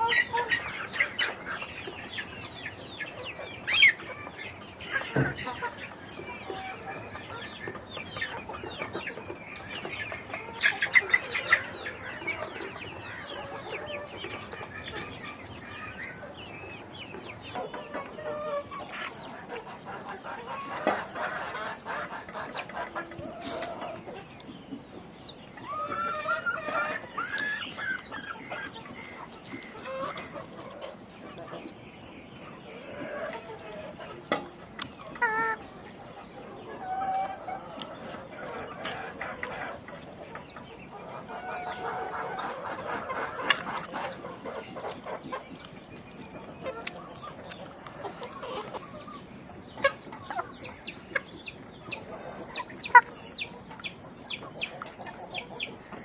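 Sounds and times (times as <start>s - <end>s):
chickens clucking: 0.0s - 56.0s
chicks peeping: 0.0s - 56.0s.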